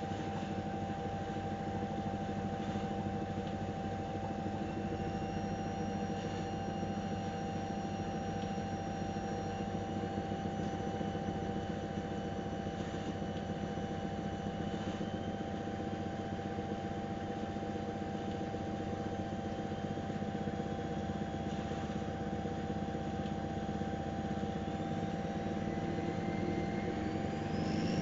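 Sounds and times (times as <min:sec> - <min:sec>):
constant whine: 0:00.0 - 0:28.0
washing machine humming: 0:00.0 - 0:28.0.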